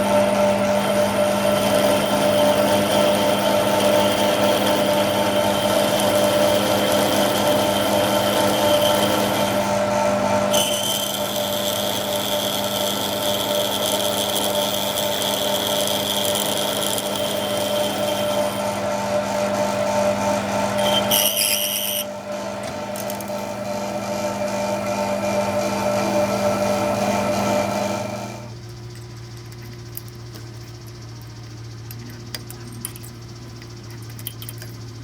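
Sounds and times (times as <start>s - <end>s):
power machinery whining: 0.0s - 28.6s.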